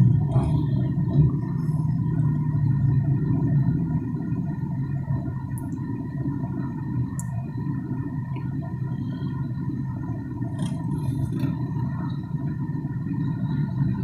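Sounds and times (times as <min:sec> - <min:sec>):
faint high whine: 0:00.0 - 0:14.0
wind and road noise rumble: 0:00.0 - 0:14.0.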